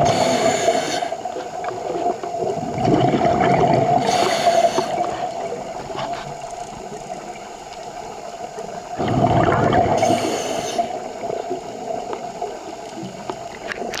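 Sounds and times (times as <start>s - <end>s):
exhaled bubbles underwater: 0.0s - 14.0s.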